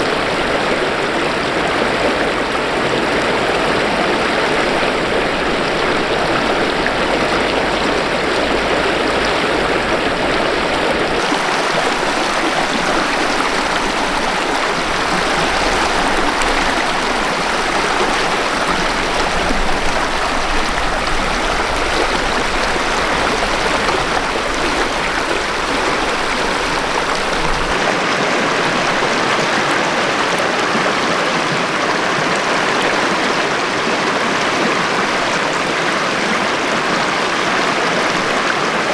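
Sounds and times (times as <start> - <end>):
river running over rocks: 0.0 - 38.9.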